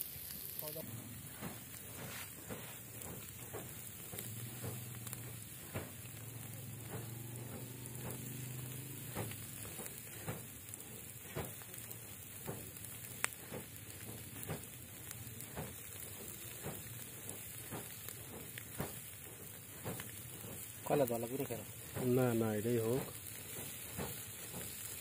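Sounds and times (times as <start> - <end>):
charcoal pops and crackles: 0.0 - 25.0
fish sizzling on charcoal grill: 0.0 - 25.0.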